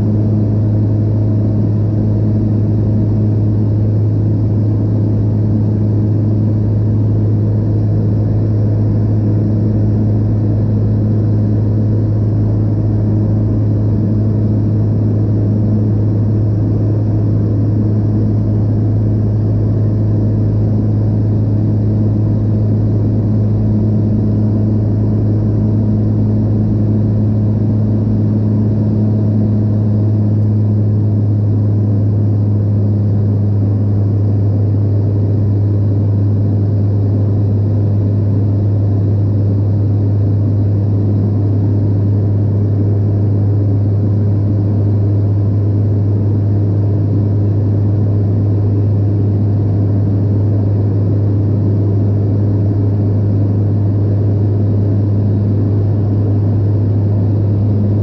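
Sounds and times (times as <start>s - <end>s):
propeller plane droning in flight: 0.0s - 58.0s.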